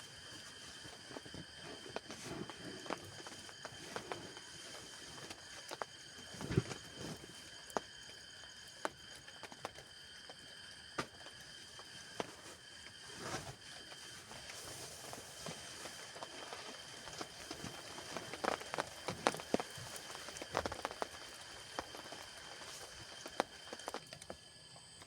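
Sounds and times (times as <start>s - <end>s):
drips tapping on a tent: 0.0s - 25.0s.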